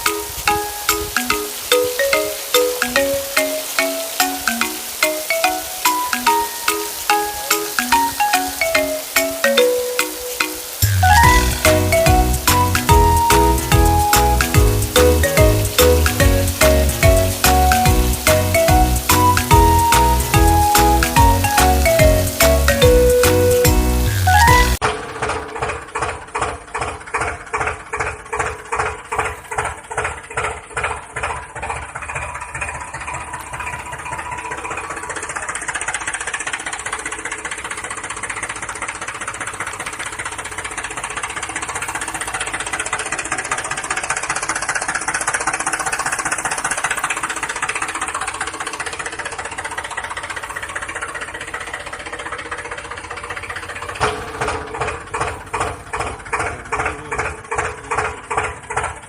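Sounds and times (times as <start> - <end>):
toy engine chugging: 0.0 - 59.0.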